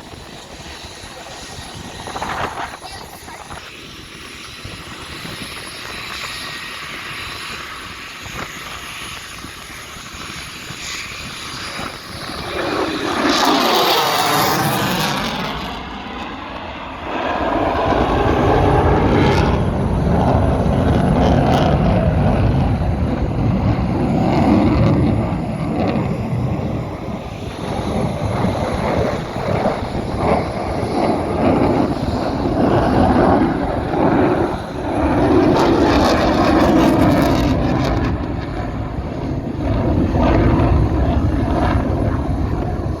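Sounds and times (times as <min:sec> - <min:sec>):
fighter jet engine roaring: 0:00.0 - 0:43.0.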